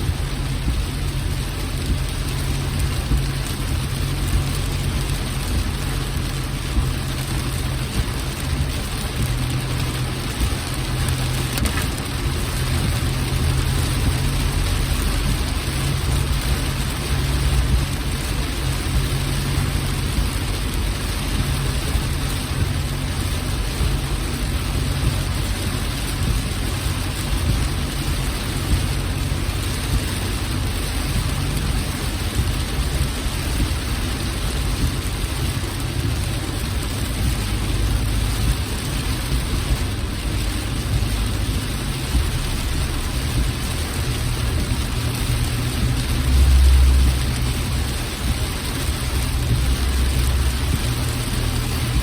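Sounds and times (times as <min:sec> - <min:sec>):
car rumbling: 0:00.0 - 0:52.0
low engine hum: 0:00.0 - 0:52.0
rain: 0:00.0 - 0:52.0.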